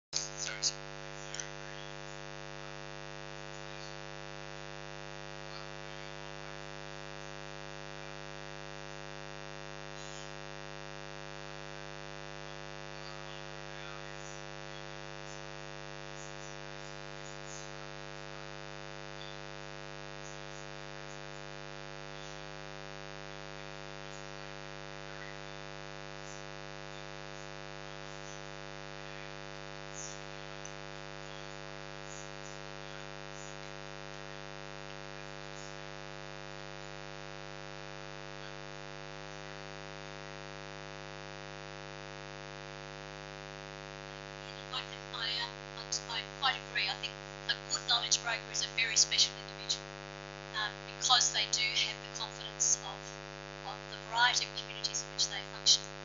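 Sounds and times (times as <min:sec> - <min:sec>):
electrical mains hum: 0:00.1 - 0:34.4, 0:43.2 - 0:56.0.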